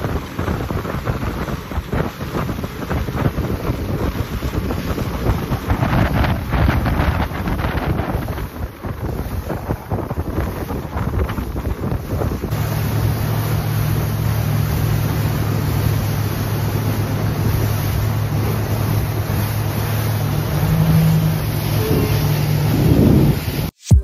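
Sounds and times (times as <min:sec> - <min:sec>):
boat motor running: 0:00.0 - 0:24.0
water noise: 0:00.0 - 0:24.0
wind on microphone: 0:00.0 - 0:24.0.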